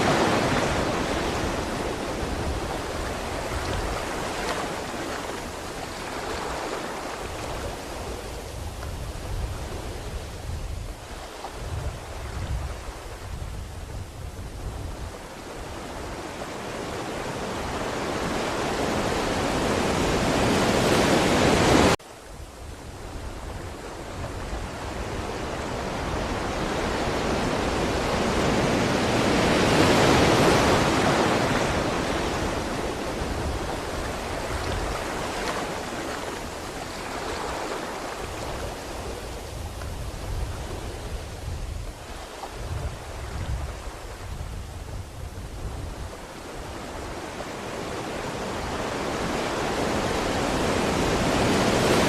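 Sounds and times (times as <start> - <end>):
ocean waves washing: 0.0 - 52.0.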